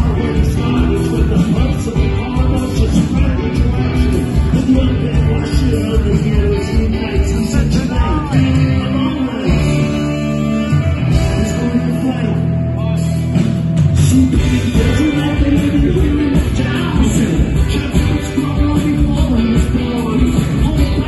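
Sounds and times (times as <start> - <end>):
man singing: 0.0 - 13.2, 13.8 - 21.0
drums: 0.0 - 21.0
electric guitar: 0.0 - 21.0
live rock band playing: 0.0 - 21.0.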